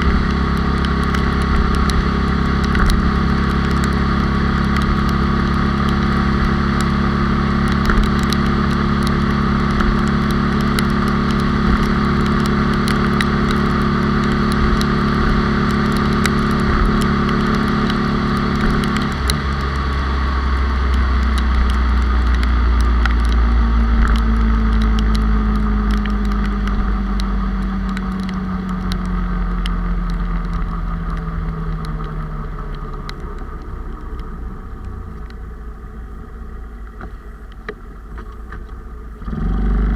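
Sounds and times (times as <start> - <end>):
motorbike engine running: 0.0 - 34.4.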